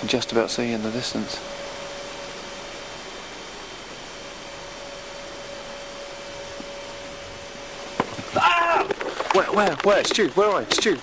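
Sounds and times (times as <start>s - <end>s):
faint constant whine: 0.0s - 11.0s
steady background hiss: 0.0s - 11.0s.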